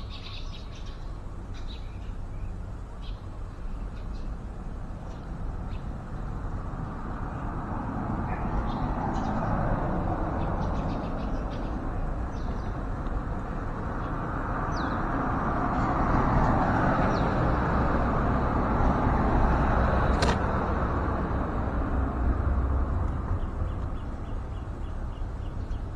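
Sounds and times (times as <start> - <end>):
rumbling outdoor background noise: 0.0 - 25.9.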